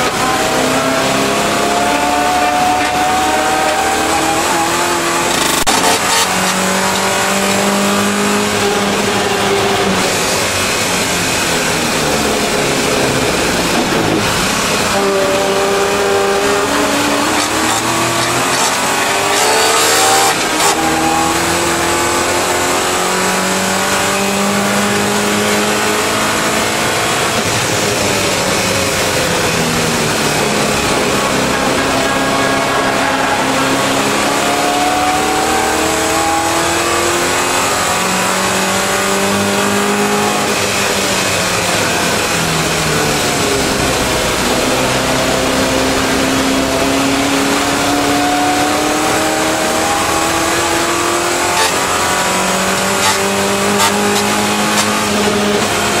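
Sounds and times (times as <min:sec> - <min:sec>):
race car engine under load: 0:00.0 - 0:56.0
road and wind noise: 0:00.0 - 0:56.0.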